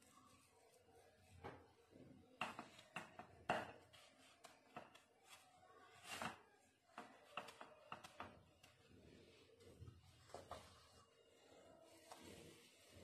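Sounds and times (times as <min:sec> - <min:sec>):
hands rolling food in semolina: 0:00.0 - 0:13.0.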